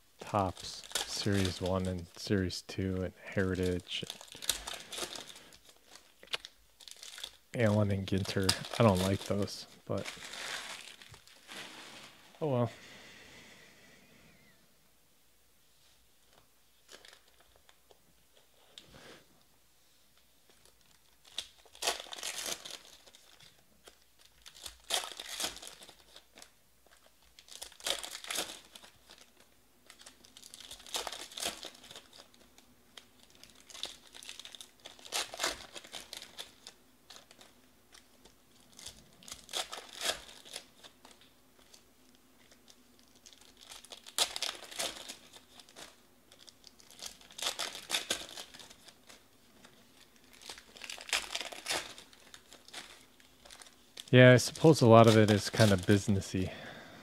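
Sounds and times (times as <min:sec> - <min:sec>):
card pack wrappers tearing: 0:00.2 - 0:12.2, 0:16.8 - 0:17.8, 0:20.5 - 0:56.5.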